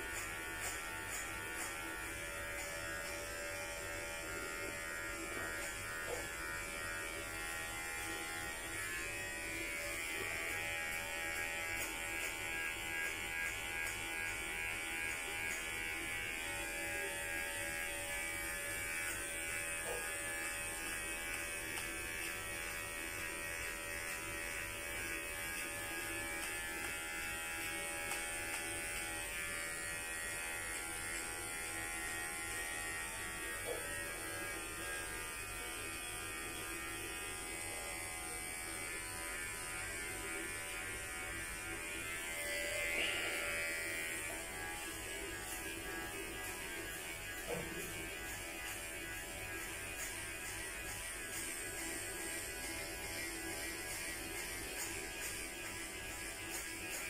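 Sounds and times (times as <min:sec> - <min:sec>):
electric hair clippers buzzing: 0:00.0 - 0:57.0.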